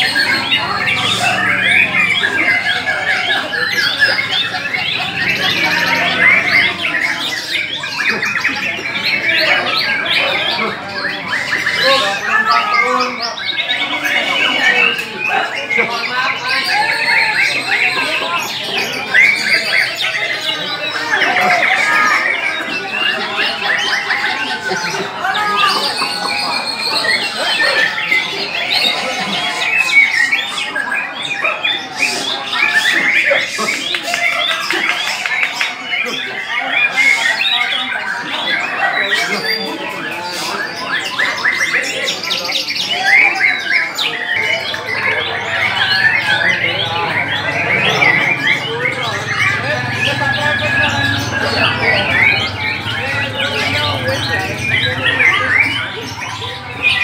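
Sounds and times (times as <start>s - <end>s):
songbirds chorus chirping: 0.0s - 57.0s.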